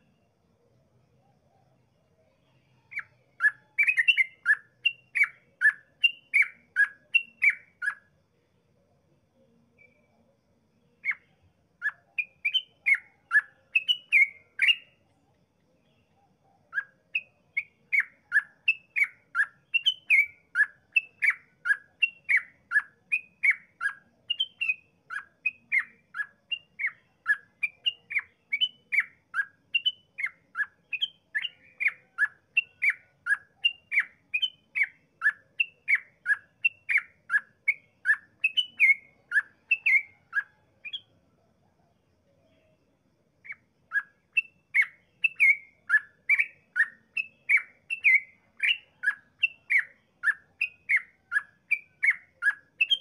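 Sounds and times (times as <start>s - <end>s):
bird singing rapid slurred notes: 2.3s - 8.2s, 10.9s - 15.1s, 15.8s - 41.2s, 43.4s - 53.0s.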